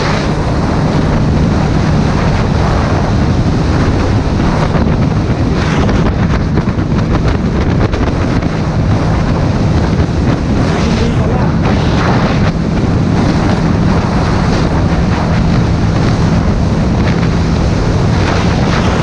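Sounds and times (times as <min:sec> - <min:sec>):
motorcycle engine drone: 0:00.0 - 0:19.0
road noise: 0:00.0 - 0:19.0
wind buffeting microphone: 0:00.0 - 0:19.0.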